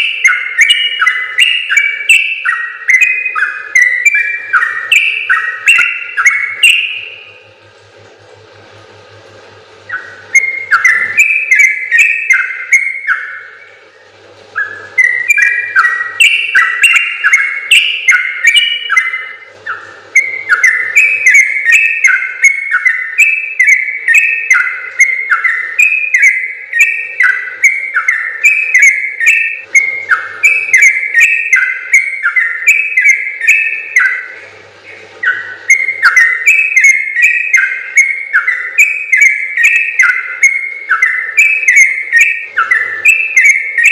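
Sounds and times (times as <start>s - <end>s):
bird singing bubbly whistled notes: 0.0s - 7.5s, 9.8s - 43.9s.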